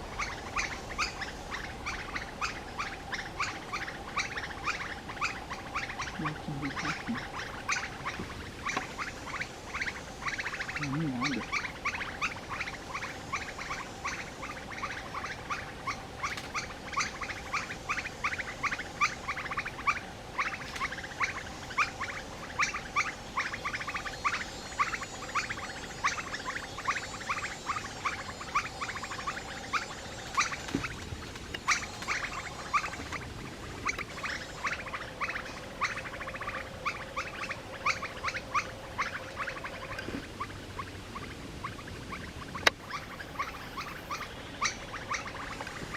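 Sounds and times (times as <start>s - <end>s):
faint steady hum: 0.0s - 45.9s
rapid animal chirping: 0.0s - 45.9s.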